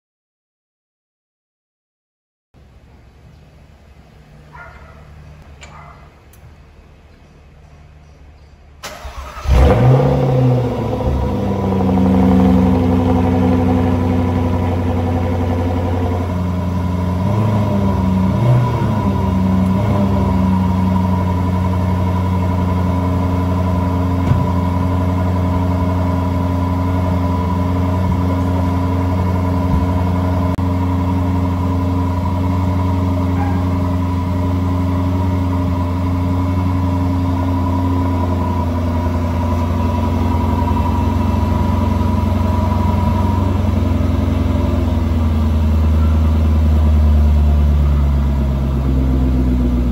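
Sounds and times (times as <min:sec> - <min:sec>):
car engine cold start and idle: 0:02.6 - 0:49.9.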